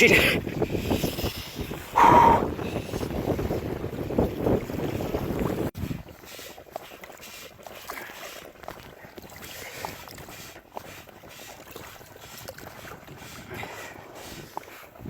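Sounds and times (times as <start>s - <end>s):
water rushing past boat: 0.0s - 15.0s
water splashing against hull: 0.0s - 15.0s
wind: 0.0s - 15.0s.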